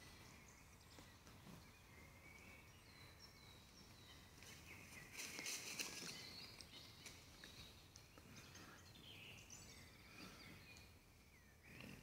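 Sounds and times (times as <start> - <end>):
songbird calls and chirps: 0.0 - 12.0.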